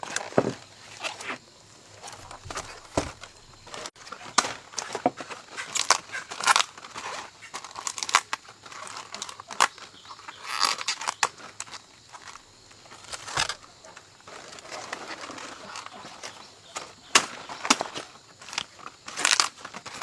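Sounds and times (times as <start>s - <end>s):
rustling and crackling: 0.0s - 20.0s.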